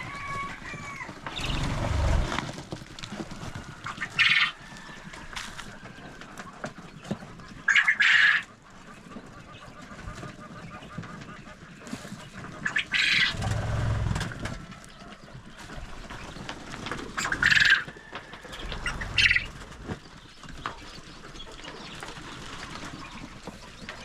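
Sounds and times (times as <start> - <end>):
chickens squawking and flapping: 0.0 - 24.0.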